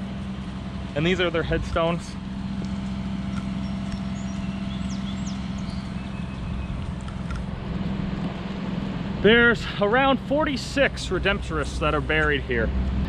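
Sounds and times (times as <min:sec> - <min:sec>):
excavator engine drone: 0:00.0 - 0:13.0.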